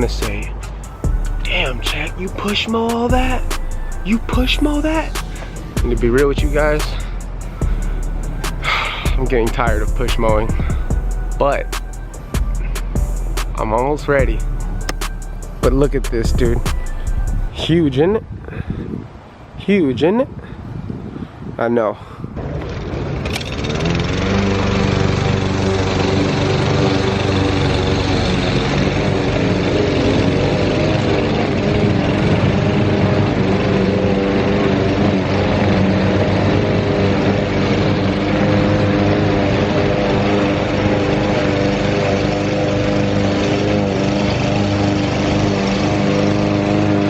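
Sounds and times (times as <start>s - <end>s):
lawn mower engine running: 0.0s - 12.3s, 13.0s - 17.0s, 22.5s - 47.0s.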